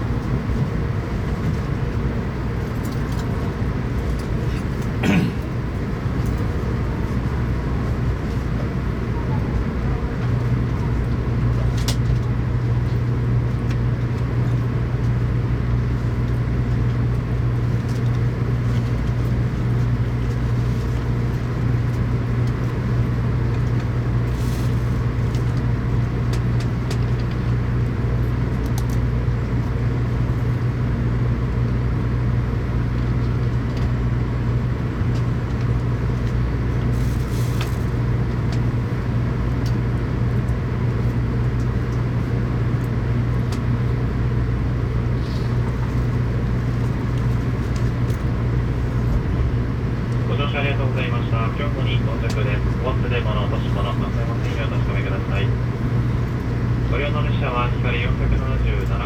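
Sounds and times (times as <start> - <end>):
train running hum: 0.0 - 59.0.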